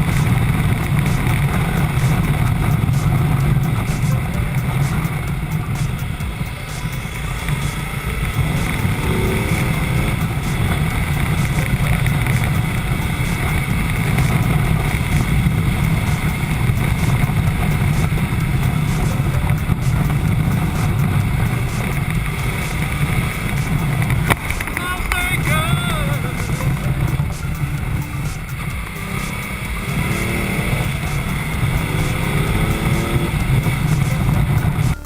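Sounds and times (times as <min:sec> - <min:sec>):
wind noise on microphone: 0:00.0 - 0:24.8, 0:25.4 - 0:35.0
motorcycle engine rumble: 0:00.0 - 0:35.0.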